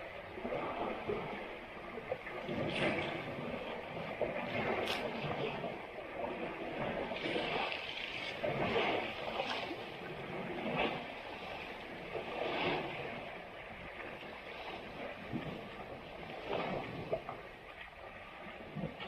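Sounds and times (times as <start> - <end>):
water and mud splashing: 0.0 - 19.0.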